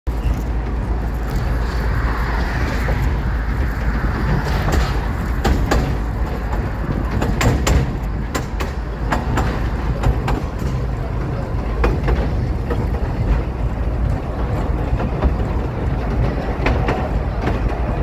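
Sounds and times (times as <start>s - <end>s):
train rumble: 0.1s - 18.0s
wheels clicking on track: 0.1s - 18.0s.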